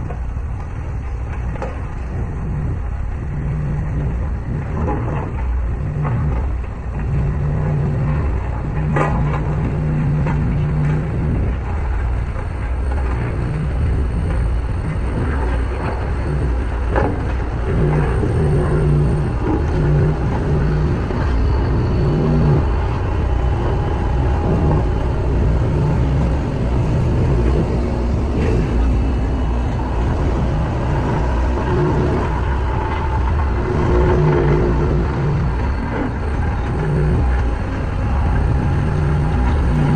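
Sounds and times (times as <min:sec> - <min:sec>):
heavy machinery diesel engines droning: 0:00.0 - 0:39.9.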